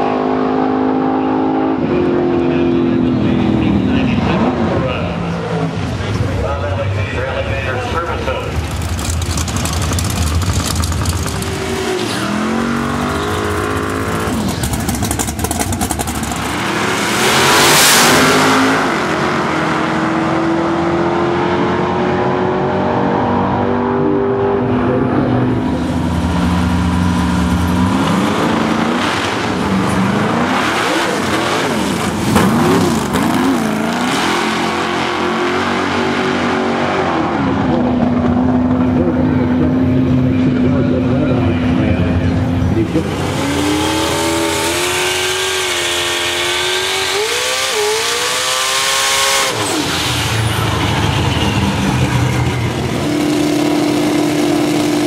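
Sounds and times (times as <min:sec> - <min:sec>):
race car engines roaring: 0:00.0 - 0:55.0.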